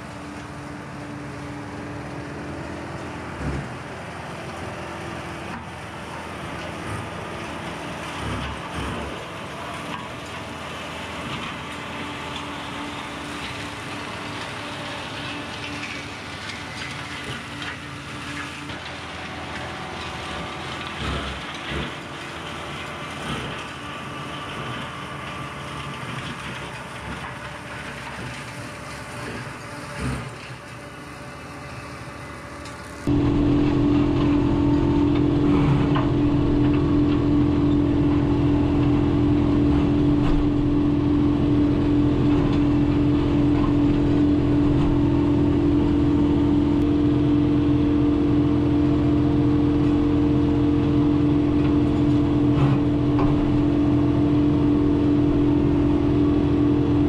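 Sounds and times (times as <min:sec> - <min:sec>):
flail mower shredding weeds: 0:00.0 - 0:57.0
tractor diesel engine under load: 0:00.0 - 0:57.0.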